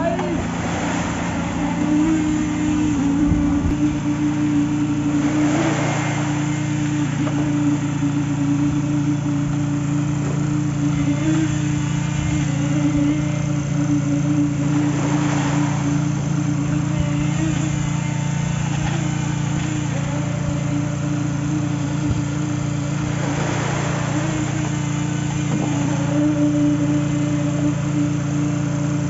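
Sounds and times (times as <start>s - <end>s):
wet concrete sliding down chute: 0.0s - 28.6s
small petrol engine running: 0.0s - 29.0s.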